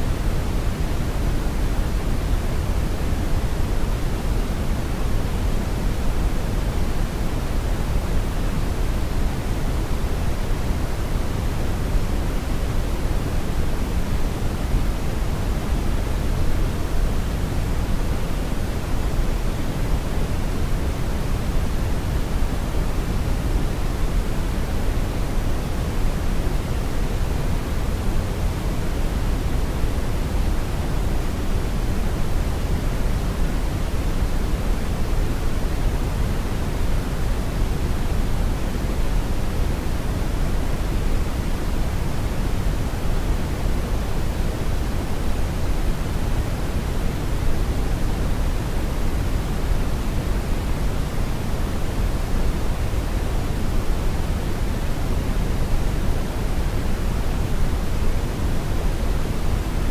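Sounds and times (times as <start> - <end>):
brown noise rumbling hiss: 0.0 - 59.9.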